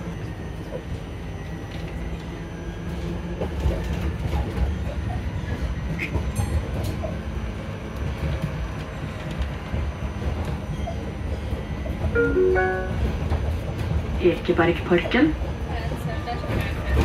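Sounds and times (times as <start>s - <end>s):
tram wheels rumbling on rail: 0.0s - 17.0s.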